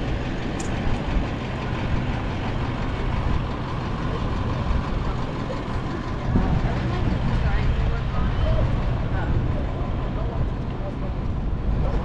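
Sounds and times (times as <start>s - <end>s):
idling vehicles engine hum: 0.0s - 12.0s.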